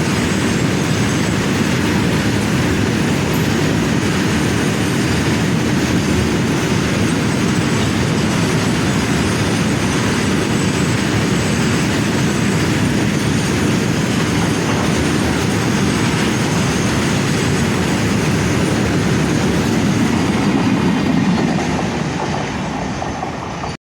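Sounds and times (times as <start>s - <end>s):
freight train wheels rumbling on rails: 0.0s - 23.8s.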